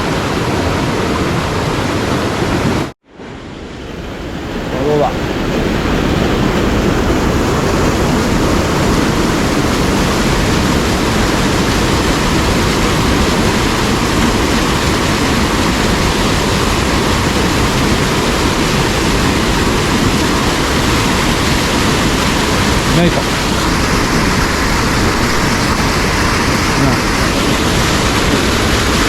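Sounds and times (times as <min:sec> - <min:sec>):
mountain stream rushing over rocks: 0:00.0 - 0:29.0.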